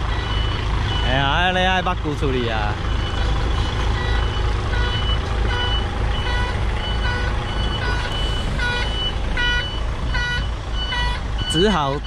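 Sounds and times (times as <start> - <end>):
diesel engine rumbling: 0.0 - 12.0
truck reversing alarm beeping: 0.0 - 12.0.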